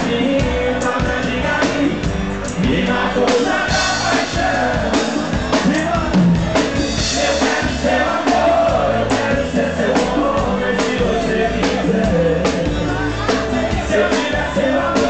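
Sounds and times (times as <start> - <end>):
live band instrumental: 0.0 - 15.0
steady drum beat: 0.0 - 15.0.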